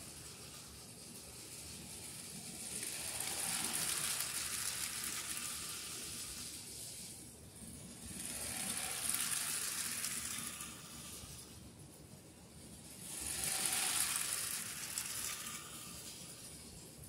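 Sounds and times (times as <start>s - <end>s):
toy train motor whirring: 0.0s - 17.0s
wheels rattling over track joints: 0.0s - 17.0s.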